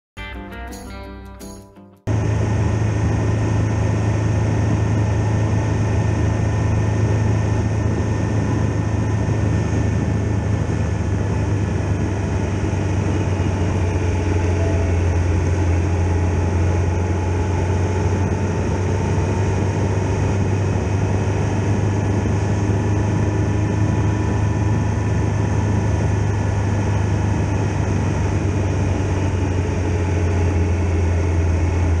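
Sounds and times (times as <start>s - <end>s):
motorcycle engine cruising: 1.4s - 32.0s
wind and road noise: 2.1s - 32.0s.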